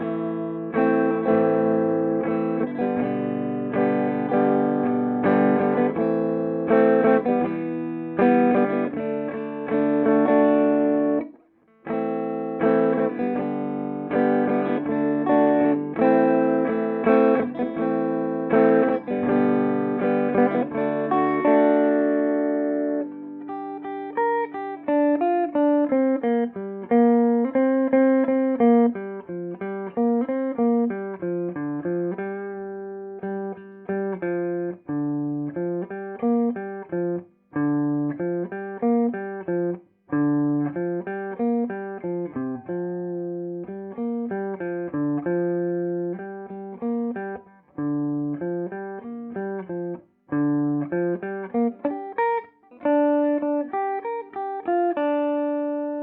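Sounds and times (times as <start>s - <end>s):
clean electric guitar: 0.0s - 56.0s.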